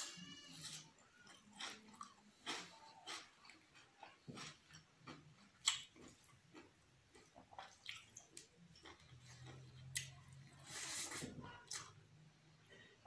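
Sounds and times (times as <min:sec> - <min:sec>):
man chewing food: 0:00.0 - 0:12.0.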